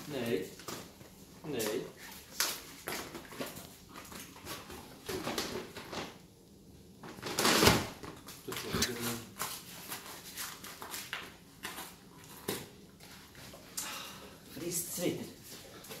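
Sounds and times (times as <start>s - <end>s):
dog claws on tiled floor: 0.0s - 6.2s, 7.0s - 13.7s.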